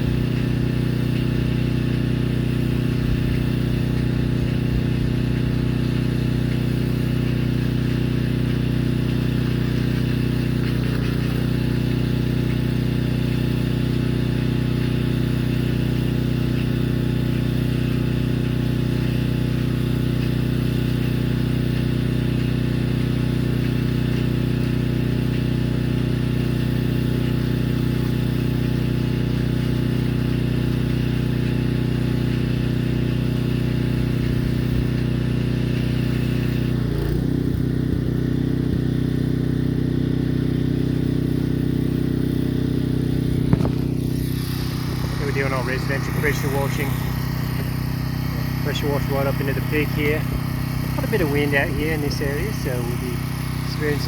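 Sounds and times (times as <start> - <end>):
pressure washer engine running: 0.0 - 54.0.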